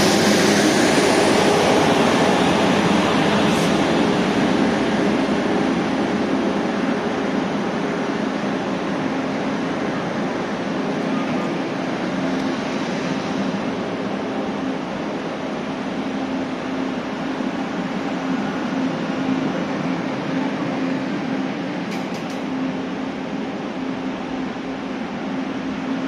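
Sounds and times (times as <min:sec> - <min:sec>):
train cars rolling past: 0:00.0 - 0:22.9.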